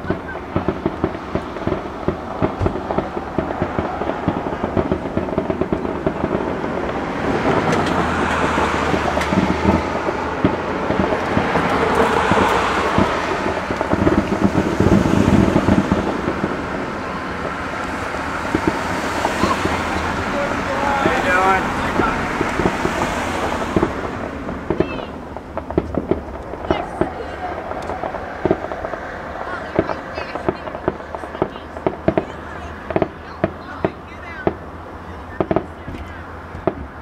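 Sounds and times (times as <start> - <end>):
fireworks bangs and crackle: 0.0 - 37.0.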